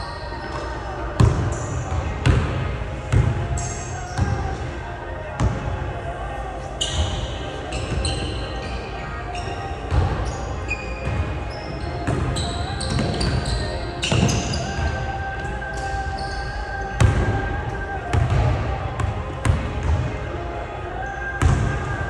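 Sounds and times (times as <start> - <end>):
sneakers squeaking: 0.0 - 22.0.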